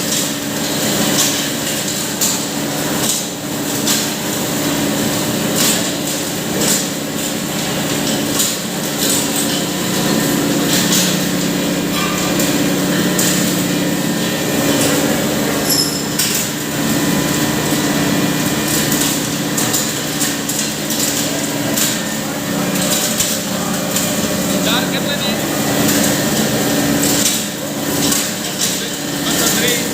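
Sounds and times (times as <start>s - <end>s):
sharp knocks and clatters: 5.3s - 29.9s.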